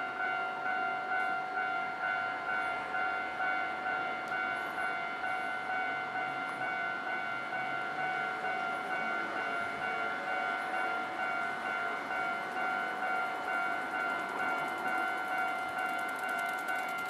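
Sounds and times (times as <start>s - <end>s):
level-crossing warning bell: 0.0s - 17.0s
low train noise: 0.0s - 17.0s.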